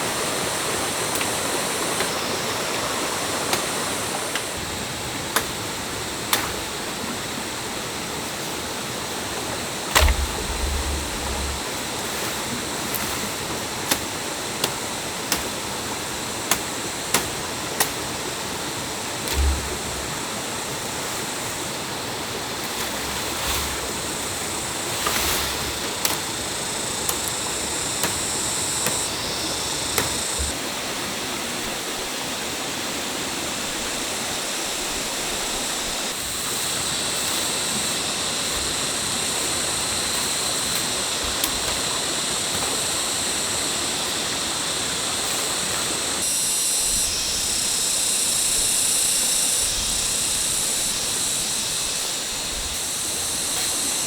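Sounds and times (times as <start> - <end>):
stream water rushing: 0.0 - 46.3.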